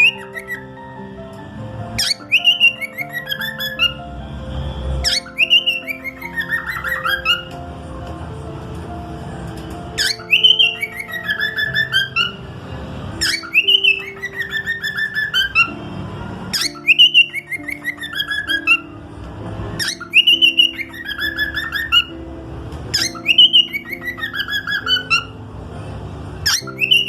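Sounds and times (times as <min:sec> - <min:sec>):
cockatiel whistling: 0:00.0 - 0:01.2, 0:01.9 - 0:08.0, 0:09.9 - 0:15.9, 0:16.5 - 0:22.2, 0:22.9 - 0:25.4, 0:26.4 - 0:27.0
background music chords: 0:00.0 - 0:27.0.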